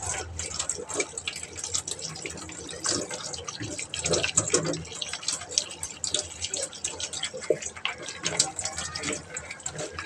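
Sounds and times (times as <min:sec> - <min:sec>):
tap water running and splashing: 0:00.0 - 0:10.0.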